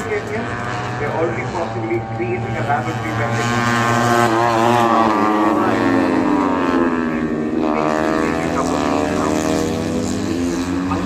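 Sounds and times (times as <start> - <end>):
racing motorcycles passing: 0.0 - 11.0.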